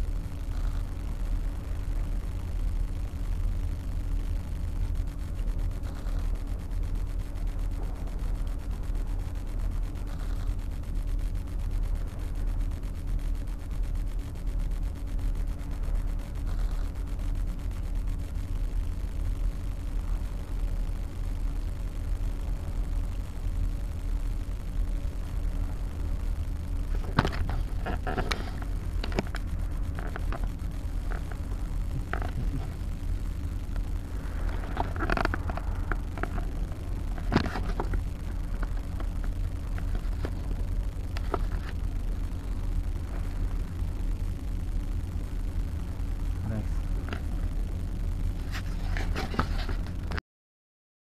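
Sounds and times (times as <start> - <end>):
steady low rumble: 0.0 - 50.2.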